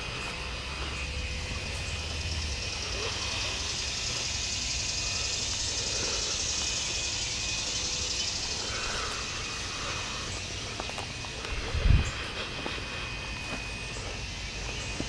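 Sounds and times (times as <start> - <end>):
insects calling: 0.0 - 15.0.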